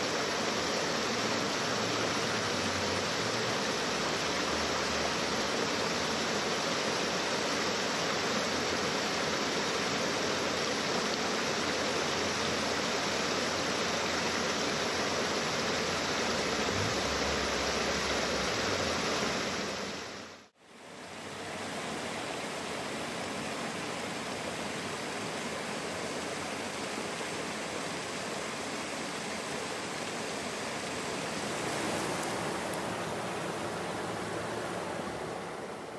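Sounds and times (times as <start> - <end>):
flowing river water: 0.0 - 35.9.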